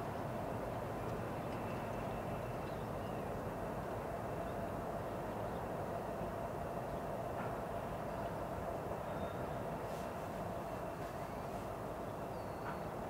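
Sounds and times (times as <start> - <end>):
distant diesel locomotives droning: 0.0 - 13.0.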